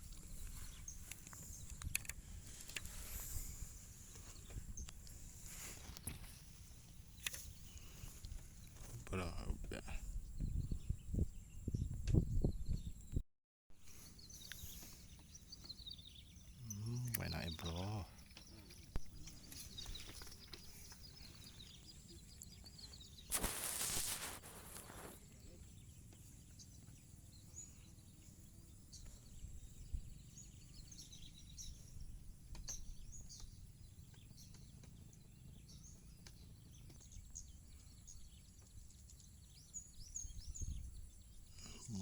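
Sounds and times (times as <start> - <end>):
small birds chirping: 0.0 - 13.2, 13.8 - 42.0.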